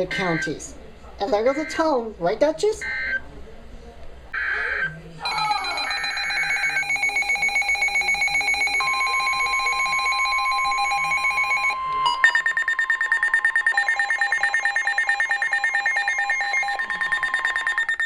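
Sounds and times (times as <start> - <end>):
steady electronic alert tones: 0.0 - 2.0, 2.8 - 3.2, 4.4 - 18.0.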